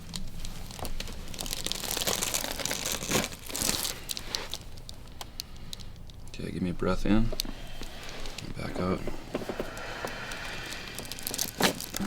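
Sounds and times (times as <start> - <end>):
rustling and crinkling on table: 0.0 - 6.0, 7.2 - 12.0.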